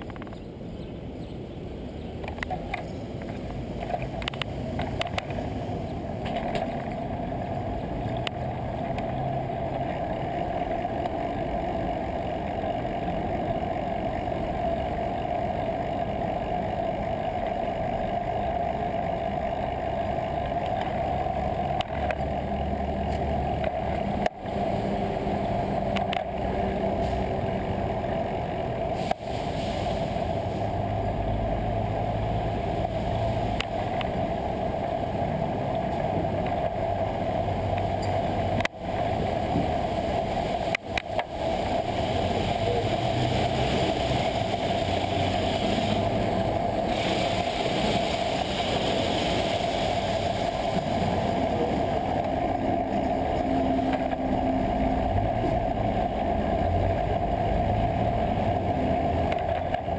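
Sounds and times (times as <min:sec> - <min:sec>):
wind and road noise: 0:00.0 - 0:59.9.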